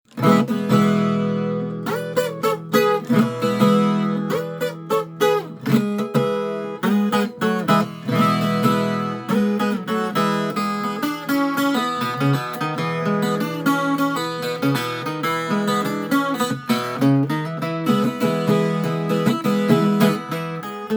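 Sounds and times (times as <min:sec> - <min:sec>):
folk guitar plucked notes and chords: 0:00.1 - 0:20.9.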